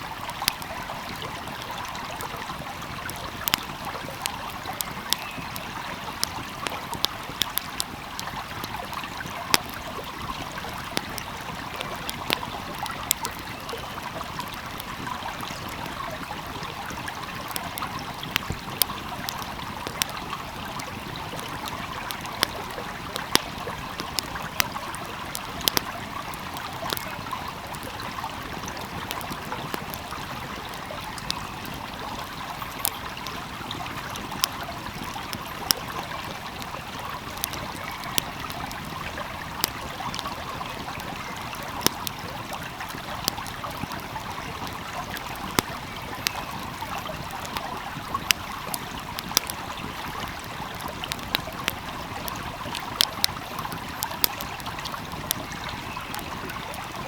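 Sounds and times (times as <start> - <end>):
small stream flowing: 0.0 - 57.0
wood fire crackling: 0.0 - 57.0.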